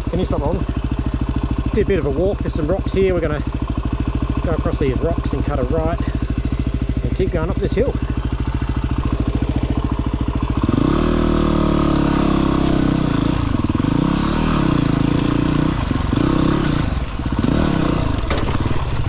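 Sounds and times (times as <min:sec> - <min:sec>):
dirt bike engine revving: 0:03.7 - 0:19.0.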